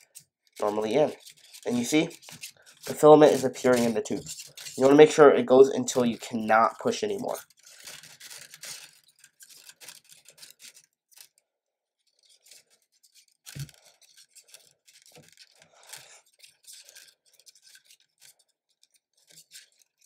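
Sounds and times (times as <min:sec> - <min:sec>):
hands scratching plastic extruder: 0:00.0 - 0:11.4, 0:12.0 - 0:20.0.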